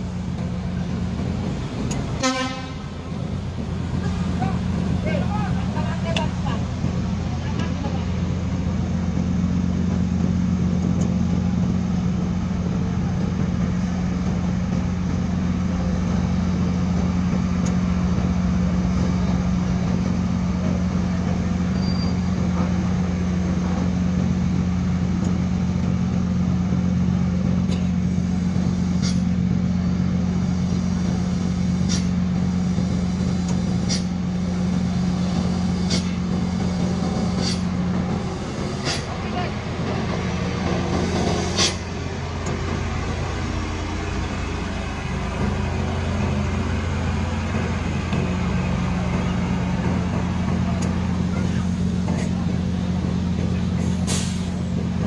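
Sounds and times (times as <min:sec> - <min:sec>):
truck diesel drone: 0:00.0 - 0:55.0.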